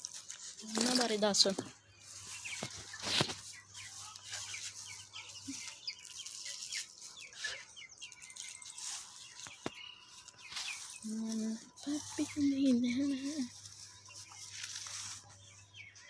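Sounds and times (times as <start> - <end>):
chickens and chicks chirping: 0.0 - 16.0.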